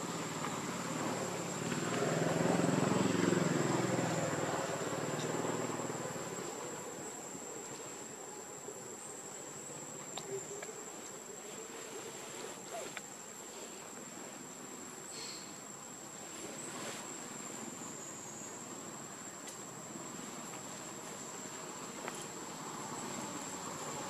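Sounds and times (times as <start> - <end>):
insects droning: 0.0 - 24.0
low background noise: 0.0 - 24.0.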